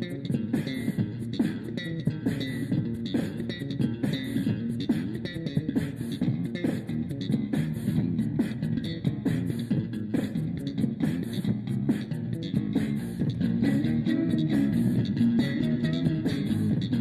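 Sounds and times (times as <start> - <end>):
guitar and bass music with beat: 0.0 - 17.0.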